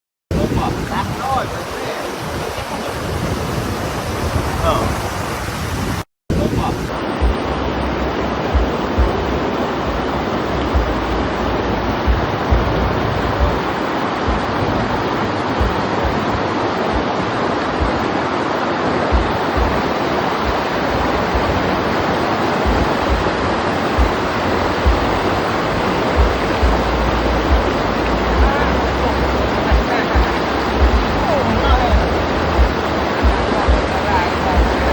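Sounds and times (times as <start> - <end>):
storm wind blowing hard: 0.3 - 34.9
wind gusts thumping on microphone: 0.3 - 34.9.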